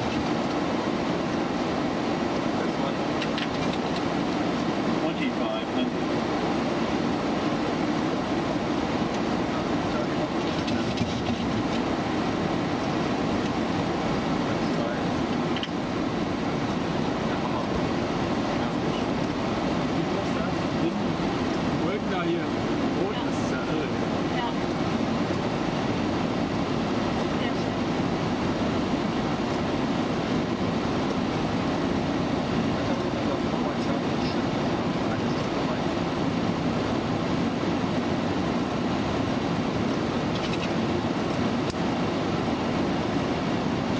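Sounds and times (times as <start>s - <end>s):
jet engines humming: 0.0s - 43.9s.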